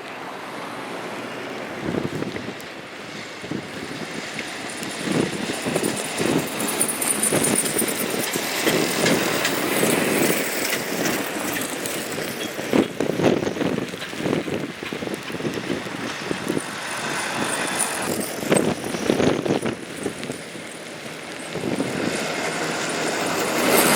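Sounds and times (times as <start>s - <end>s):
road traffic passing: 0.0s - 23.9s.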